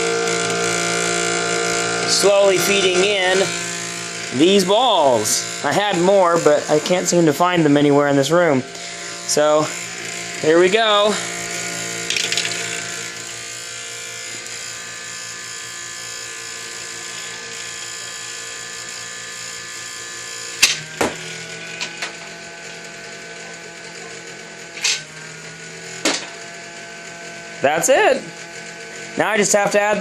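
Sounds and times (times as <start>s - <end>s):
flywheel motor whining: 0.0s - 30.0s
stepper motor feeder turning: 0.0s - 30.0s.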